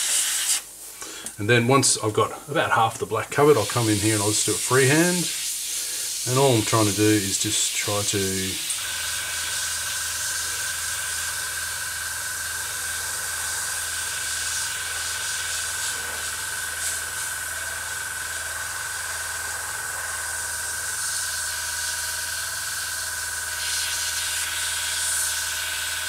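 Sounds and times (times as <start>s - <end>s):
airbrush hissing and whistling: 0.0s - 0.9s, 3.5s - 26.0s.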